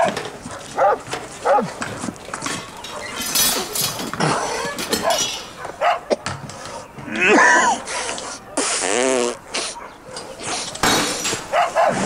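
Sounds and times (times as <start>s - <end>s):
dog barking: 0.0s - 1.8s, 2.7s - 10.7s, 11.4s - 12.0s.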